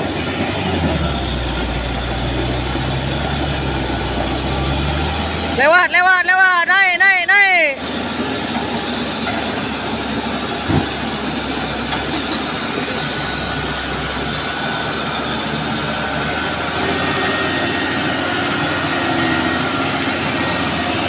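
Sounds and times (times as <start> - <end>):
diesel truck engine under load: 0.0 - 21.0.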